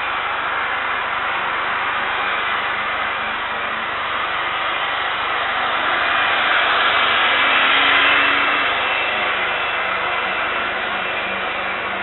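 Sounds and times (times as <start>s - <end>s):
jet engines hissing rush: 0.0s - 12.0s.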